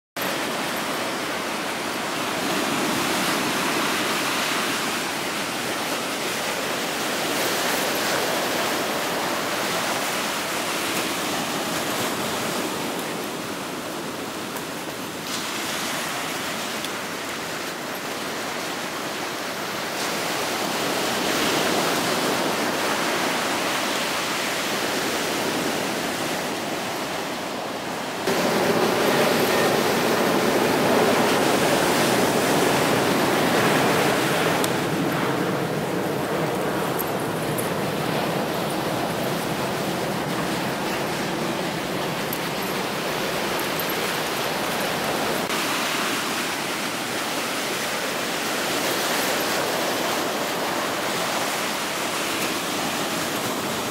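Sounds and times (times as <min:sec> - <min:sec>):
ocean surf breaking: 0:00.2 - 0:53.9.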